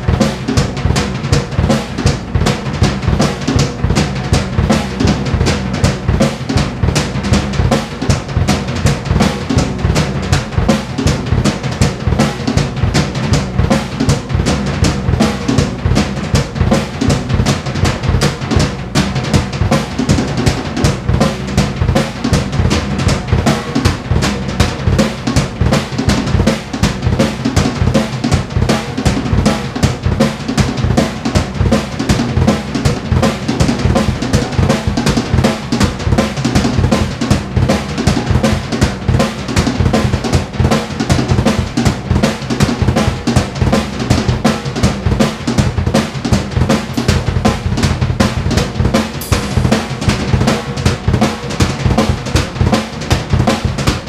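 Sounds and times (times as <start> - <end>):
acoustic drum kit groove: 0.0 - 54.0.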